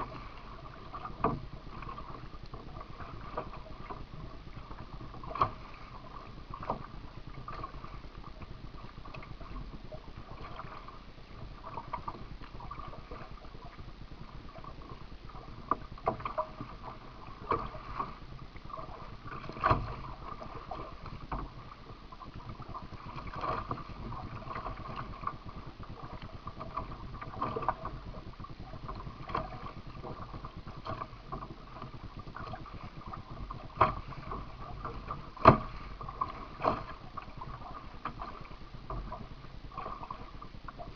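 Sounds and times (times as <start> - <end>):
water washing past kayak: 0.0 - 40.9.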